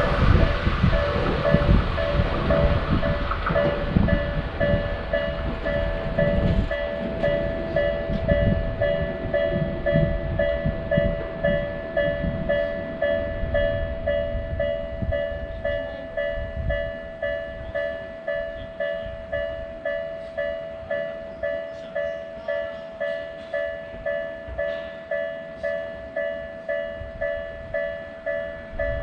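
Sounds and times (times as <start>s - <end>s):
railroad crossing bell ringing: 0.0s - 29.0s
train rumbling and clattering: 0.0s - 29.0s.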